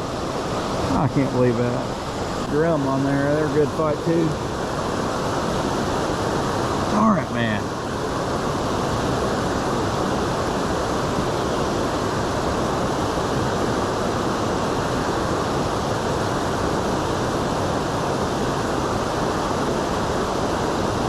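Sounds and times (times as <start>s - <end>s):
water rushing below a dam: 0.0s - 21.0s.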